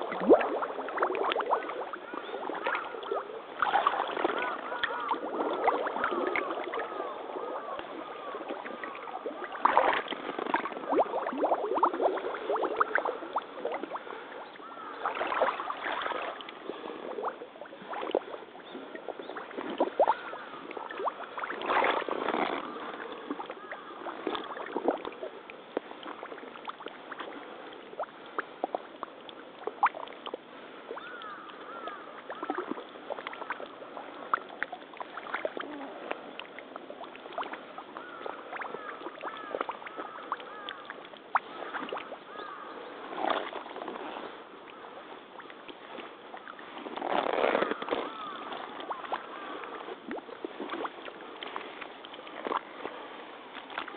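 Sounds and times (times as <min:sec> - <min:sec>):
mud sucking and drips: 0:00.0 - 0:53.9
wading footsteps sloshing in water: 0:00.0 - 0:53.9.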